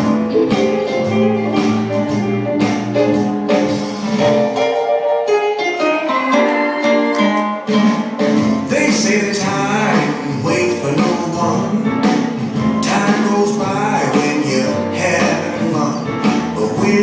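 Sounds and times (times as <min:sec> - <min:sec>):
blues band with guitar: 0:00.0 - 0:17.0.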